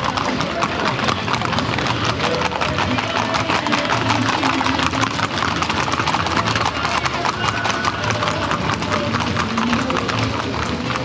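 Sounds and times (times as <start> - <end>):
horse hooves clattering: 0.0 - 11.0.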